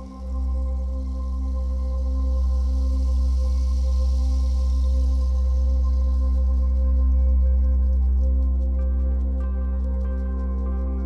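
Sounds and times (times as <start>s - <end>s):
ambient drone music: 0.0s - 11.0s.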